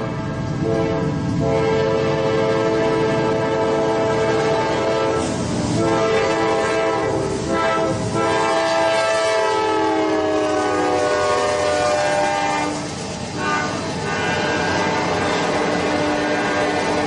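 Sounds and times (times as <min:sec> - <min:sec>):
train horn chord: 0:00.0 - 0:17.0
train rumble: 0:00.0 - 0:17.0.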